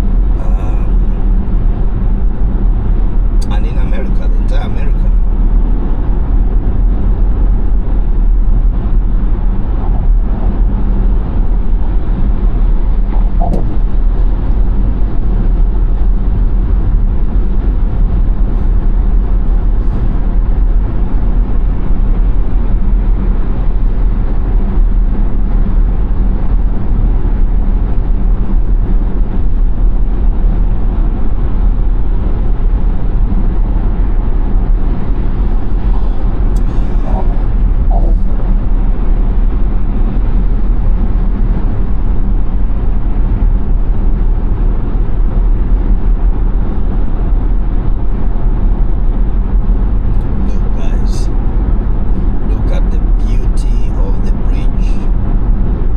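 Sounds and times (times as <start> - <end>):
tyre and road noise rumble: 0.0 - 55.9.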